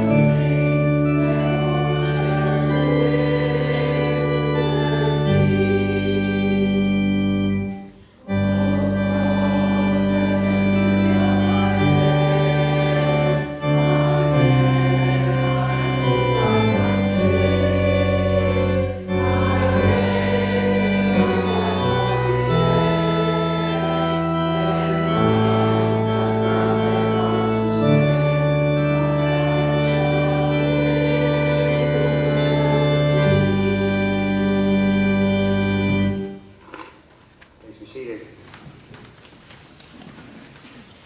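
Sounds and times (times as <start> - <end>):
church organ chords: 0.0 - 36.6.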